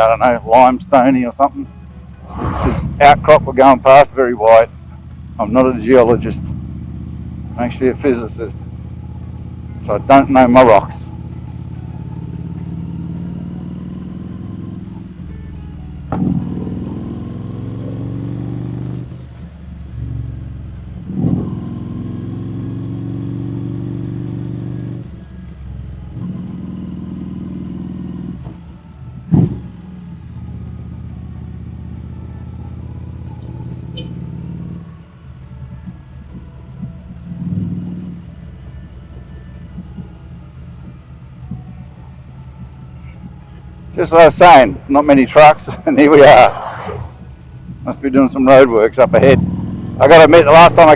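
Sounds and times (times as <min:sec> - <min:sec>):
motorcycle engine riding: 0:00.0 - 0:50.9.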